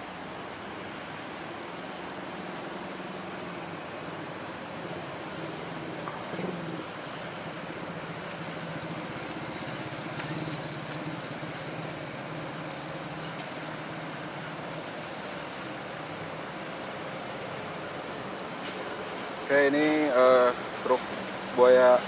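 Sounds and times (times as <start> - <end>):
truck engine running at low revs: 0.0 - 22.0.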